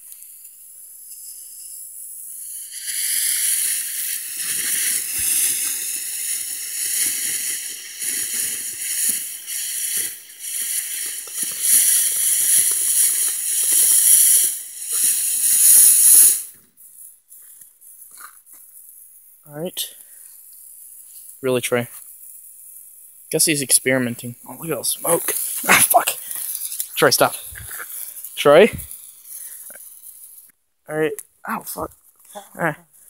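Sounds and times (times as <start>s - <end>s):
firework fountain hissing: 0.0s - 33.0s.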